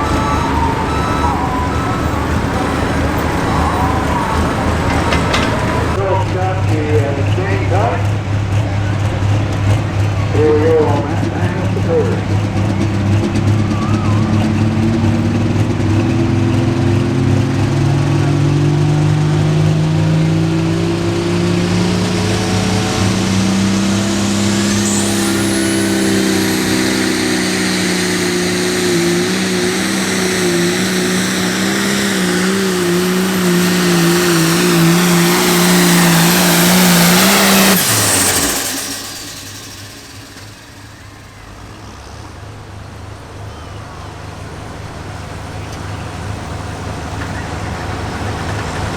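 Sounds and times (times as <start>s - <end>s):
high turbo whistle: 0.0s - 6.2s, 9.9s - 19.4s, 20.0s - 43.8s
diesel tractor engine revving: 0.0s - 48.9s.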